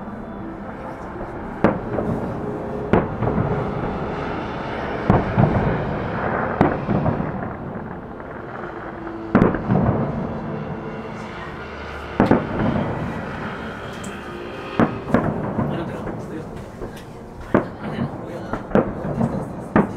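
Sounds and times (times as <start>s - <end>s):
fireworks crackling: 1.2s - 19.9s.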